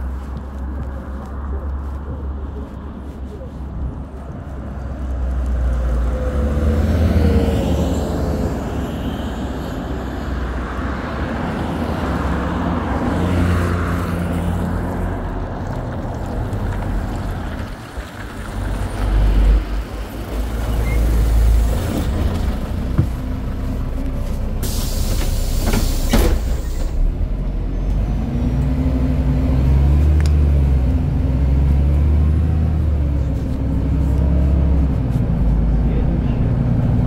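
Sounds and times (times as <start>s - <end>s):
bus engine rumble: 0.0s - 37.0s
road traffic: 0.0s - 37.0s.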